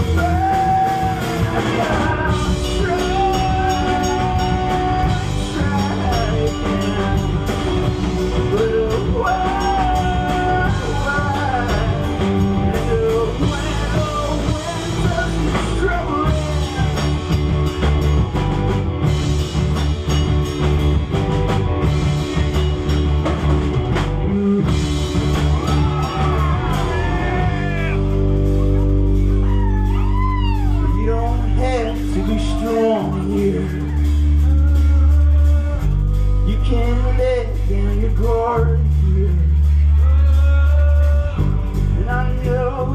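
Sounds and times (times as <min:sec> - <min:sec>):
person singing: 0:00.0 - 0:17.6, 0:24.2 - 0:42.9
rock band playing live: 0:00.0 - 0:42.9.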